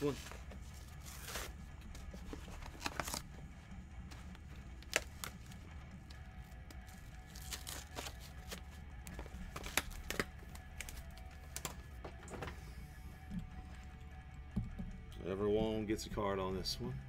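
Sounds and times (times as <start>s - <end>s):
faint background music: 0.0s - 17.0s
low steady hum: 0.0s - 17.0s.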